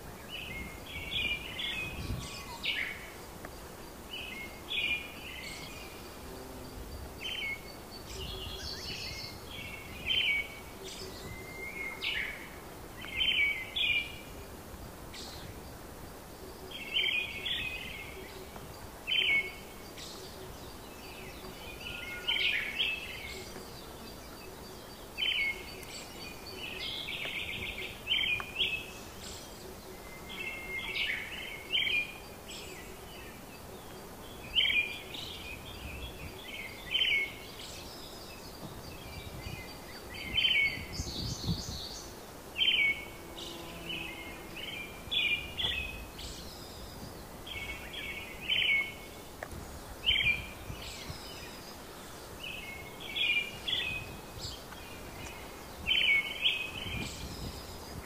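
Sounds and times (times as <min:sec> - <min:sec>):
songbirds chirping: 0:00.0 - 0:58.0
steady background hiss: 0:00.0 - 0:58.0.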